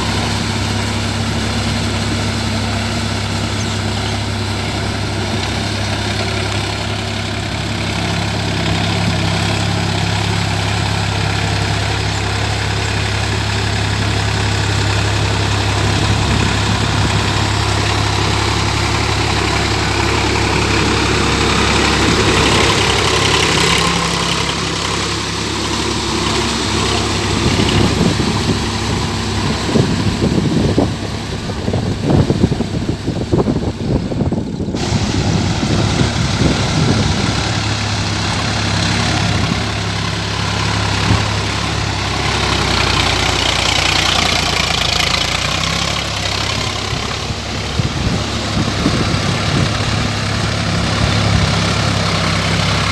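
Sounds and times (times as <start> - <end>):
tractor diesel engine humming: 0.0 - 52.9.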